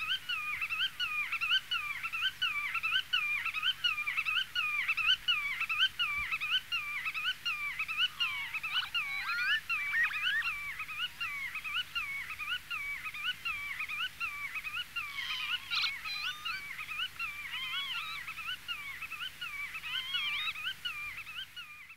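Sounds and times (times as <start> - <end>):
godwit calling repeatedly: 0.0 - 21.9
other bird calls: 0.0 - 21.9.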